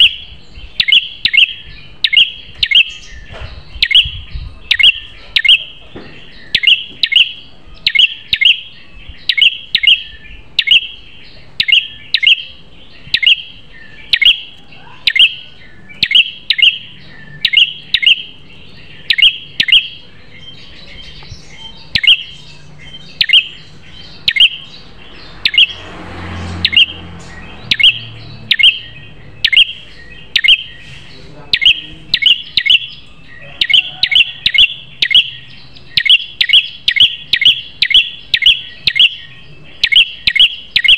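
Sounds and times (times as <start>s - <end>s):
bird chirping sharply: 0.0s - 40.9s.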